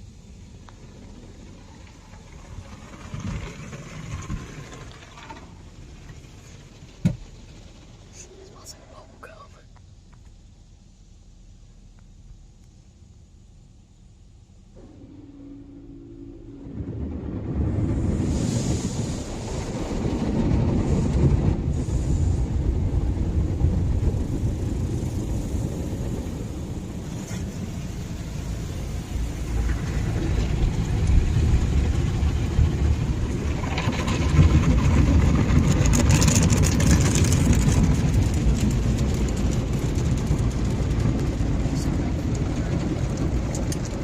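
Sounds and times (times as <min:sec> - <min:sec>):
water on car: 0:00.0 - 0:09.6, 0:16.2 - 0:44.0
car wash machinery rumbling: 0:00.0 - 0:44.0.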